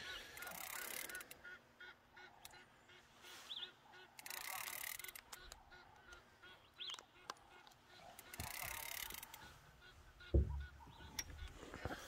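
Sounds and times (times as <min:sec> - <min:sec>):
faint geese honking: 0:00.0 - 0:12.0.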